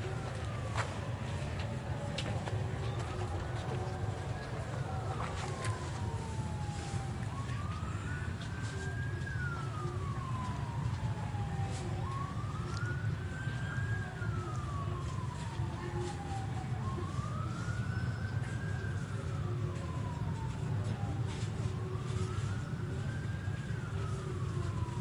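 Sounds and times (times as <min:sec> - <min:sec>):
slow wailing siren: 0:00.0 - 0:25.0.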